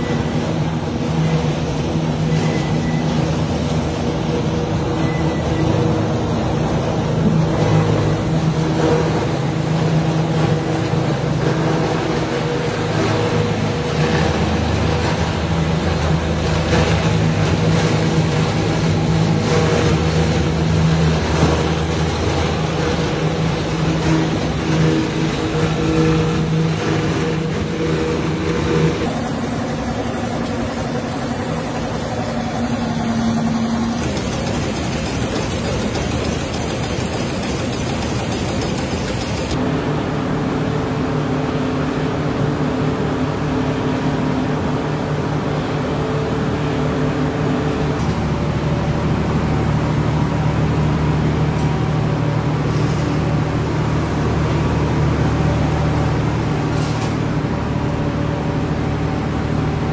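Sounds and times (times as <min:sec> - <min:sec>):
processing machinery humming: 0:00.0 - 0:59.9.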